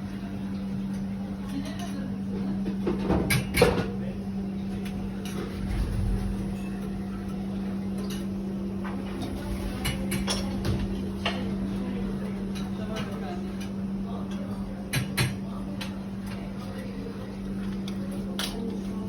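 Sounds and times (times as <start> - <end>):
low equipment hum: 0.0 - 19.0.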